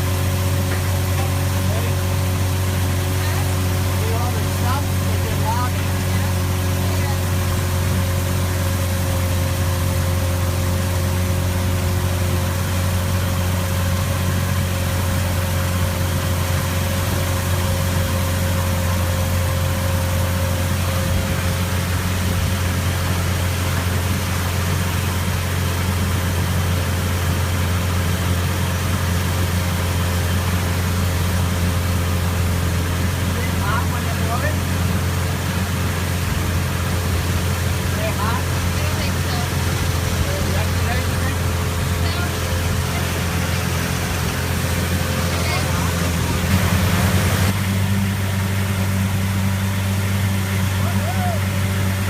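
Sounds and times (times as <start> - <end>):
engine droning: 0.0 - 52.0.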